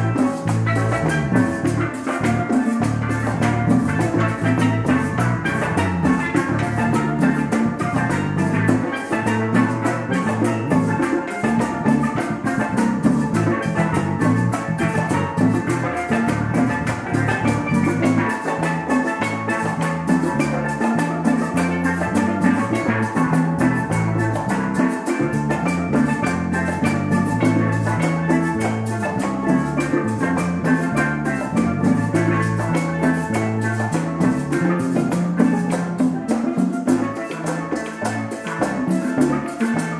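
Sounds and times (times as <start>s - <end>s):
bass line: 0.0s - 36.4s
bright melodic instruments: 0.0s - 39.9s.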